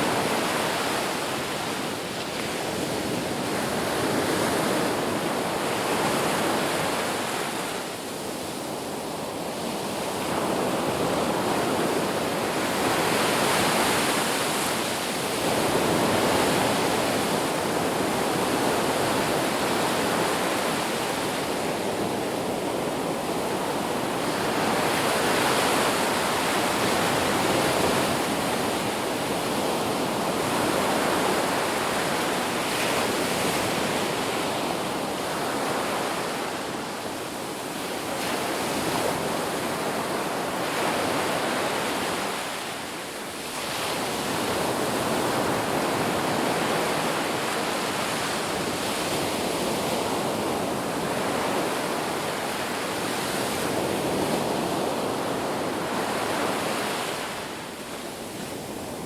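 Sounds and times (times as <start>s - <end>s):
waves washing onto beach: 0.0s - 59.0s.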